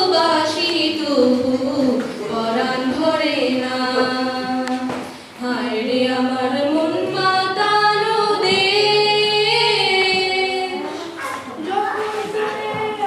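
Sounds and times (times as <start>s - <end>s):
girls singing a duet: 0.0s - 13.0s.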